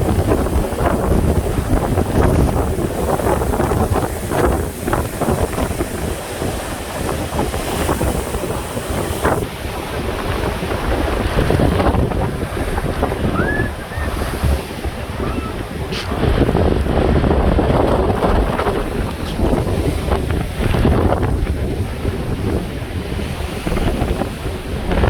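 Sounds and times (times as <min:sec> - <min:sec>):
heavy surf breaking: 0:00.0 - 0:25.0
wind buffeting microphone: 0:00.0 - 0:25.0.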